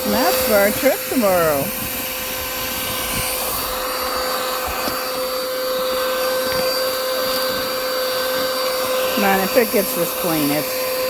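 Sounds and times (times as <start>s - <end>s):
small vacuum motor whine: 0.0s - 11.0s.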